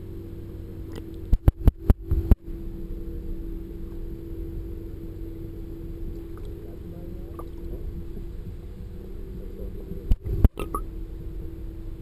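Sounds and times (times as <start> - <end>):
underwater low hum: 0.0 - 12.0.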